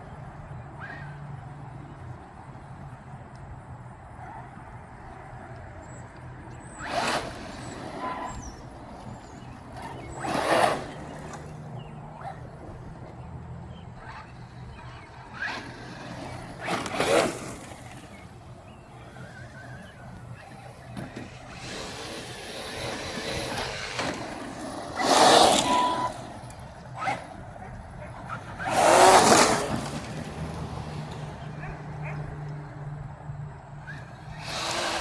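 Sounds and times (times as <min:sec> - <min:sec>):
rc truck motor and tyres: 0:00.0 - 0:35.0.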